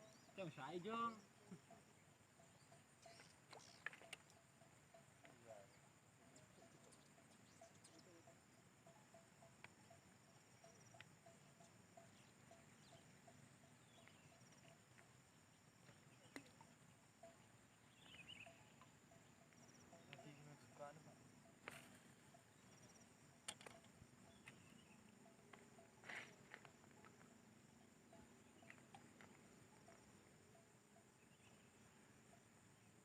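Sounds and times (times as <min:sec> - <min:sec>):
insect buzz and chirping: 0:00.0 - 0:33.0.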